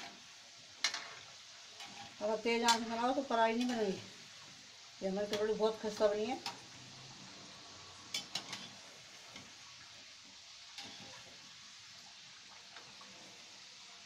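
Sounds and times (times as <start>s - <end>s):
deep-frying in hot oil sizzle: 0.0s - 14.0s.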